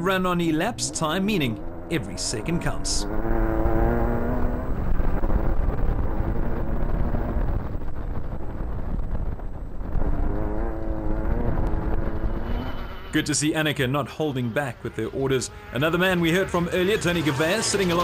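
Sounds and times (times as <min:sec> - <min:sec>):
racing car engine: 0:00.0 - 0:13.2, 0:13.8 - 0:18.0
chassis and road rumble: 0:00.0 - 0:18.0.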